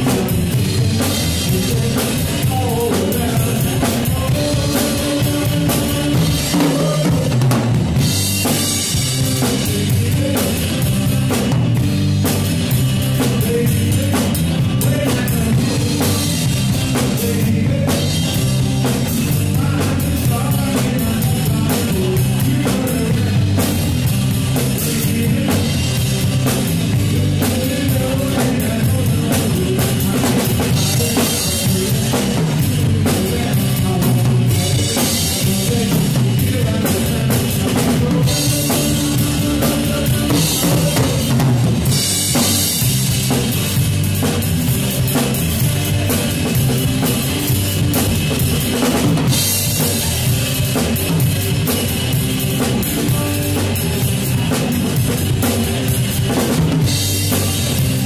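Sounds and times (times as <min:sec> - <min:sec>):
drum kit beat: 0:00.0 - 0:58.0
electric guitars: 0:00.0 - 0:58.0
rock band playing: 0:00.0 - 0:58.0.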